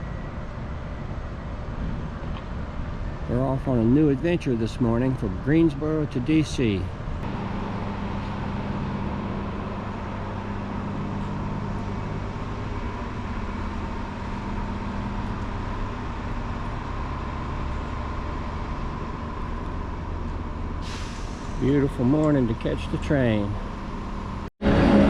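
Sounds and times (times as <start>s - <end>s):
engine hum with high whine: 0.0s - 25.0s.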